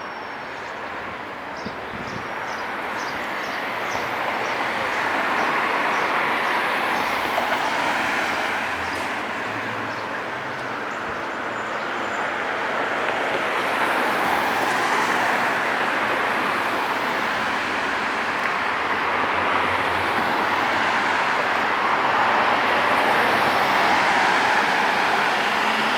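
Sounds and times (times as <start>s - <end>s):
vehicles passing close by: 0.2s - 25.9s.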